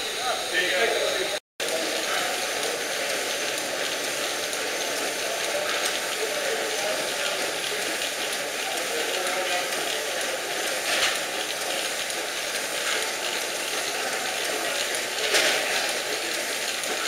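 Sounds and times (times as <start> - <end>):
faint voices: 0.0 - 17.0
steam engines clattering and hissing: 0.0 - 17.0.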